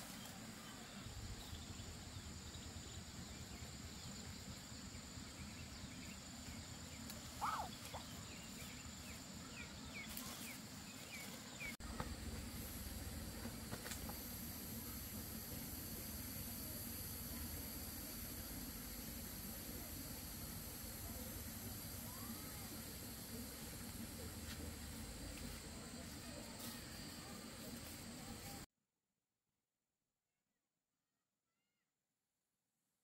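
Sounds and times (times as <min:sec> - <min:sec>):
insects droning: 0:00.0 - 0:28.7.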